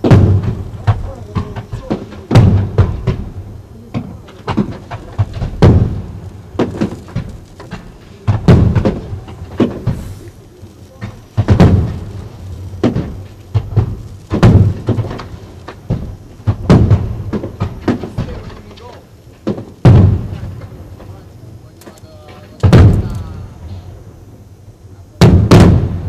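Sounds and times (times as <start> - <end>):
firework cracks and pops: 0.0 - 26.0
firework shells booming: 0.0 - 26.0.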